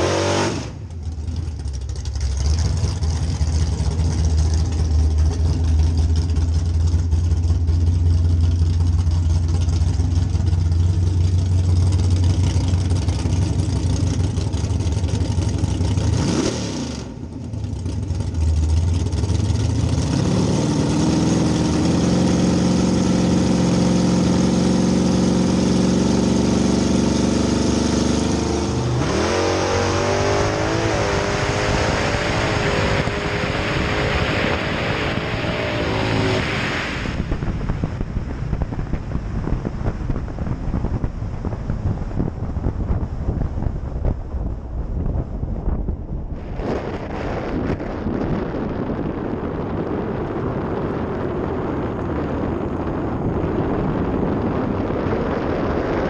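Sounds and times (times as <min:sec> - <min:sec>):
muscle car engine running: 0:00.1 - 0:56.0.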